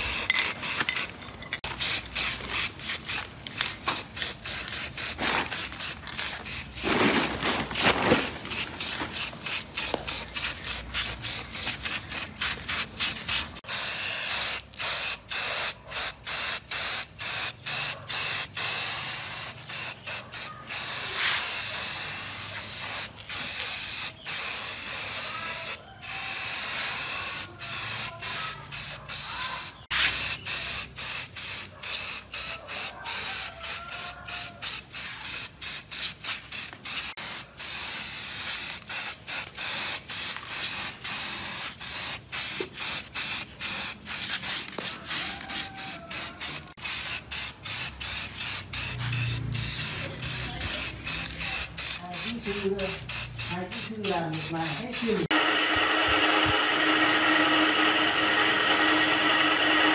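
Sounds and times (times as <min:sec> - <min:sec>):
spray paint can hissing: 0:00.0 - 0:55.4.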